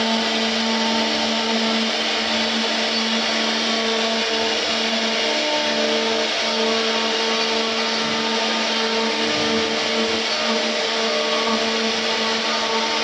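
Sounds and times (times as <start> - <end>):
router bit cutting wood hiss: 0.0 - 13.0
spindle whine: 0.0 - 13.0.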